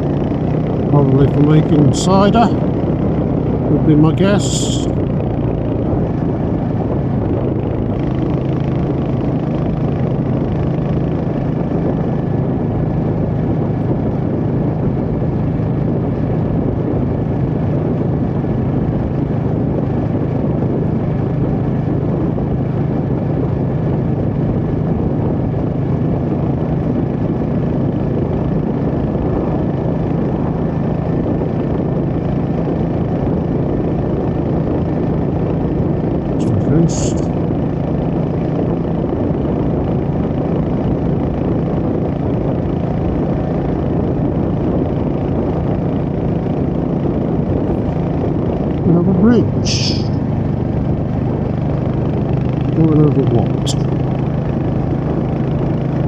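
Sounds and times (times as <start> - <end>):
motorcycle engine running steadily: 0.0 - 56.0
wind and road noise: 0.0 - 56.0.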